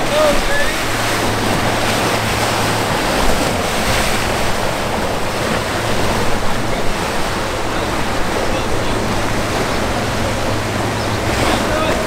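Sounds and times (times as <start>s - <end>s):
churning water and boat wake: 0.0s - 12.0s
outboard motor humming: 0.0s - 12.0s
wind buffeting microphone: 0.0s - 12.0s.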